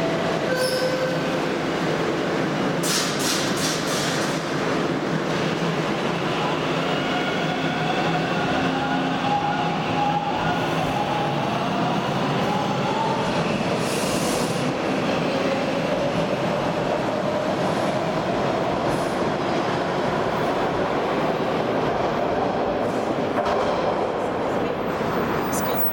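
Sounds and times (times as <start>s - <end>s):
train wheels rumbling on rail: 0.0s - 25.9s.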